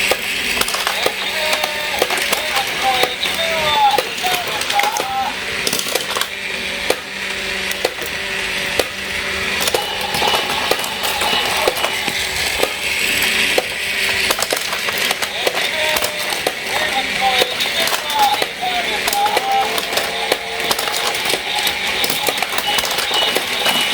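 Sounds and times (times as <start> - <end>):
plastic toy pieces clattering: 0.0 - 23.9.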